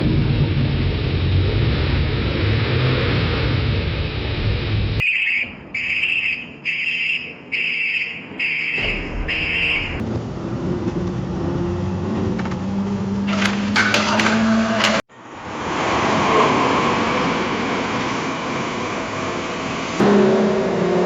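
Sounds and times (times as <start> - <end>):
loud rumbling noise: 0.0 - 5.0, 8.8 - 21.0.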